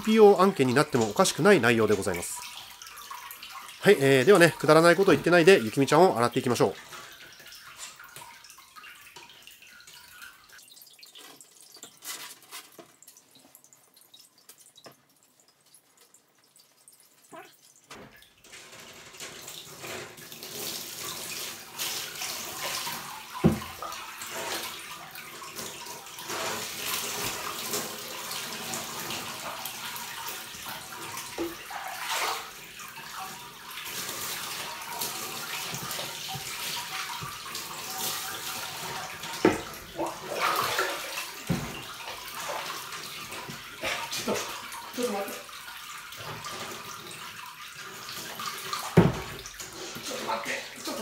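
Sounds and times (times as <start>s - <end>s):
water pouring and splashing: 0.0s - 51.0s.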